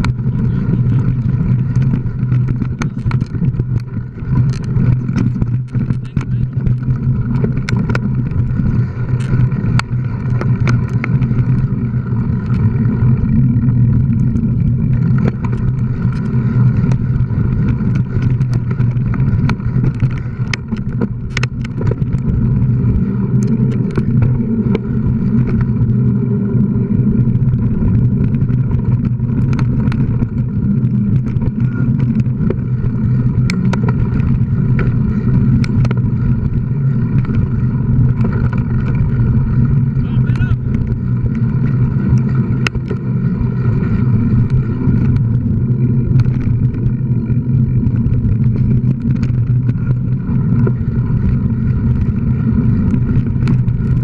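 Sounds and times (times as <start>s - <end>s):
bike clicks and rattles: 0.0s - 54.0s
bike tyres rumbling on dirt: 0.0s - 54.0s.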